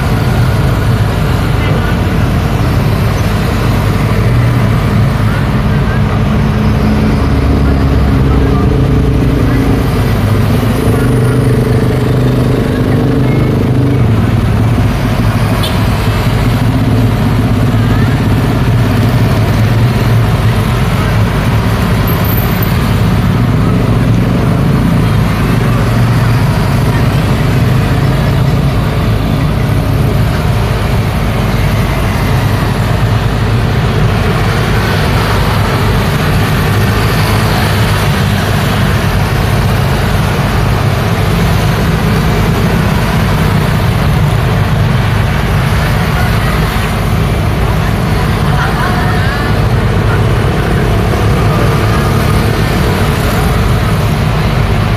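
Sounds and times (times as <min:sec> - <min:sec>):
scooters and cars passing: 0:00.0 - 0:54.9.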